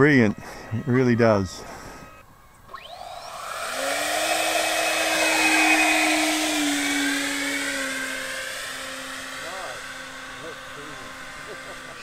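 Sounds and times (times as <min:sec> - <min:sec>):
electric ducted-fan motors whining: 0:00.0 - 0:12.0.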